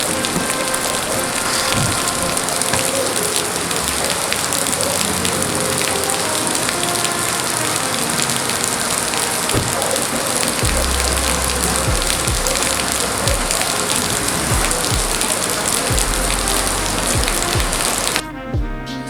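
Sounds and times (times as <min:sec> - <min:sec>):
rain falling on a car: 0:00.0 - 0:18.2.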